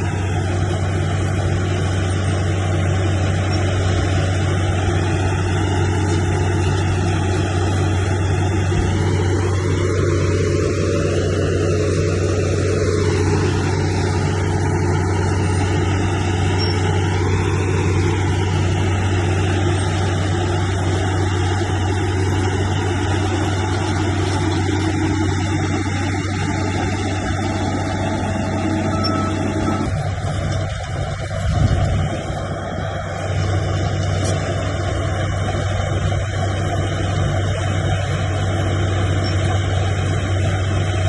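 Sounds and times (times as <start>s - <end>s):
heavy diesel engine droning: 0.0s - 41.0s.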